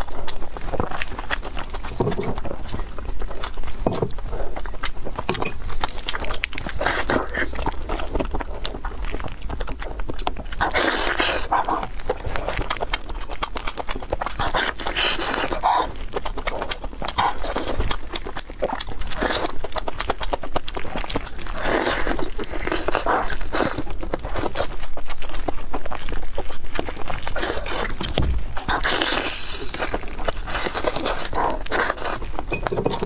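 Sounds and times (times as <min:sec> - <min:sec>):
wet chewing and lip-smacking: 0:00.0 - 0:33.0.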